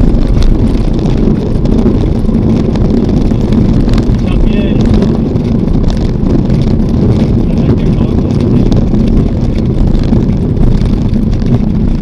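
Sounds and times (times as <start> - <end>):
propeller aircraft engine rumble: 0.0 - 12.0
wind noise on microphone: 0.0 - 12.0.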